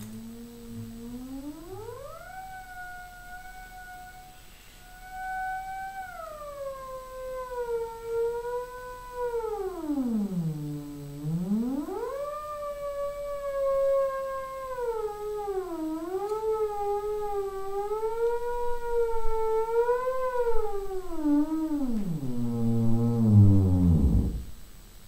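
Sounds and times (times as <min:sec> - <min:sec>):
theremin gliding tone: 0:00.0 - 0:24.7.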